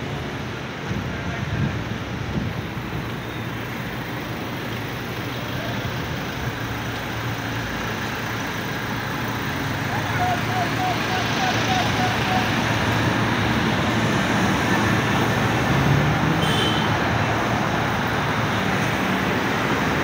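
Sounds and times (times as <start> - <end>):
city road traffic: 0.0 - 20.0
vehicle approaching: 0.0 - 20.0.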